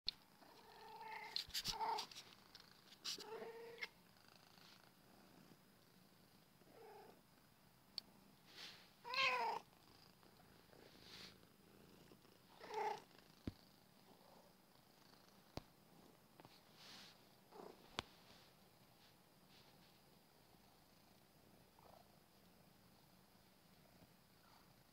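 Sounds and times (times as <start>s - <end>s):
cat purring: 0.2s - 24.9s.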